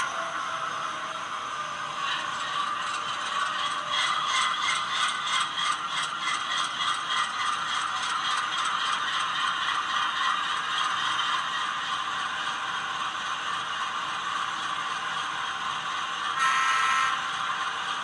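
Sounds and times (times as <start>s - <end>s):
model train motor whir: 0.0s - 18.0s.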